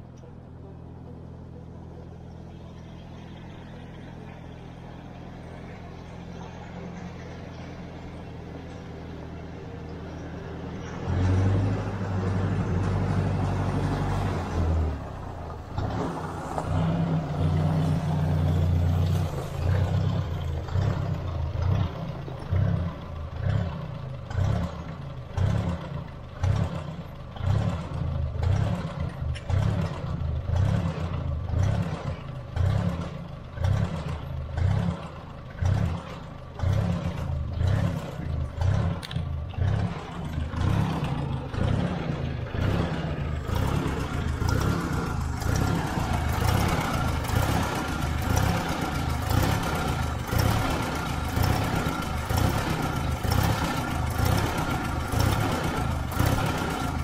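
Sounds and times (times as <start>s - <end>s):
tractor engine running unevenly: 0.0s - 57.0s.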